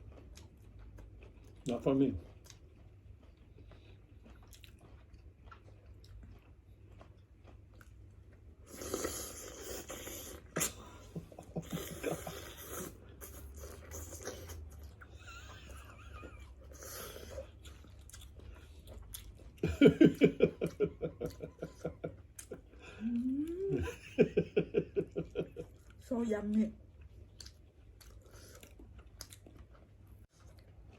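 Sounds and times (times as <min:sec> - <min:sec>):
people chewing food: 0:00.0 - 0:30.9.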